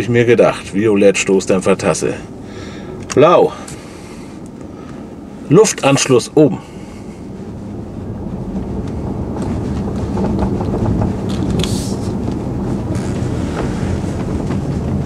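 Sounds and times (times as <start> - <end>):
tyre and road noise rumble: 0.0 - 15.0.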